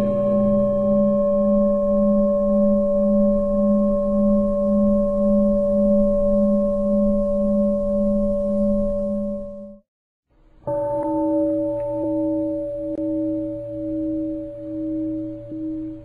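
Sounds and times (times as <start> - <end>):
singing bowl ringing drone: 0.0 - 9.8, 10.6 - 16.0.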